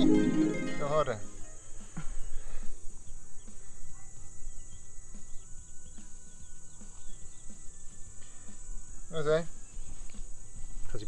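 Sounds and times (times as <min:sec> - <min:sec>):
bird chirps: 0:00.0 - 0:11.0
high-pitched insect chorus: 0:00.0 - 0:11.0.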